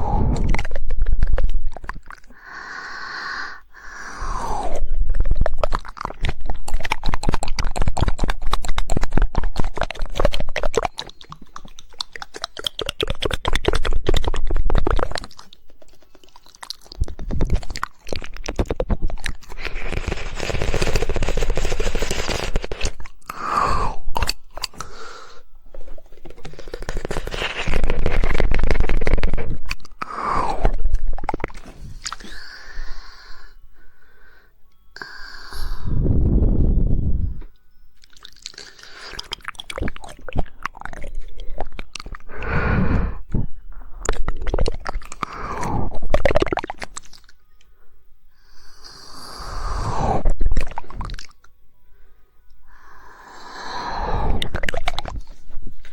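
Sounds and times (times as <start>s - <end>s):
fast tongue clicks: 0.0s - 33.5s, 38.0s - 47.4s, 48.6s - 51.5s, 52.7s - 55.9s
wet smacking mouth sounds: 0.0s - 33.6s, 35.0s - 47.4s, 48.6s - 51.6s, 53.5s - 55.9s.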